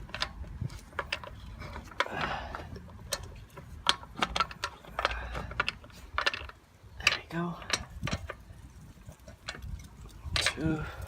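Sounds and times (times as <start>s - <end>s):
metallic clicks and scraping: 0.0s - 11.0s.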